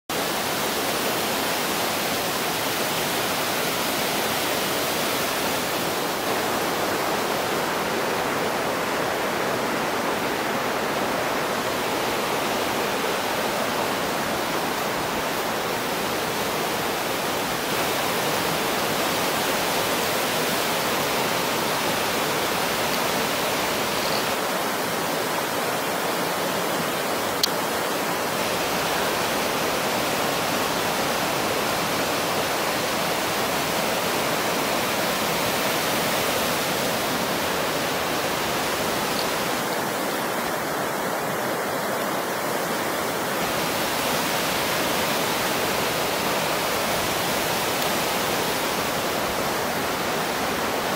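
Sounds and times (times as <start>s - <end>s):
stream rushing over rocks: 0.1s - 50.9s.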